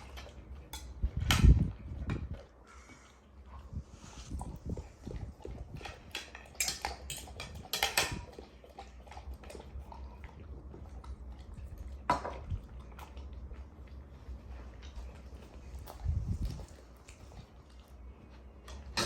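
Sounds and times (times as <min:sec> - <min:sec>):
dog eating from a dish: 0:00.0 - 0:19.0.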